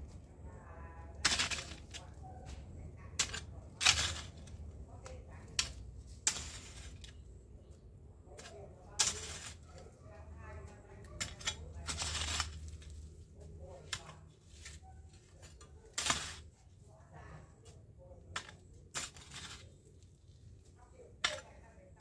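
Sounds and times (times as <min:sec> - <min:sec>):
garden tool scraping dry ground: 0:00.0 - 0:22.0.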